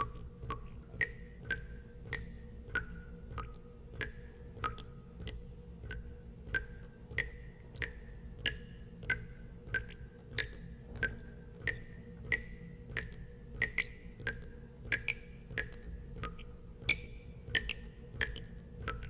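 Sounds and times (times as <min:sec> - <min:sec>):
water drops plinking into water: 0:00.0 - 0:19.0.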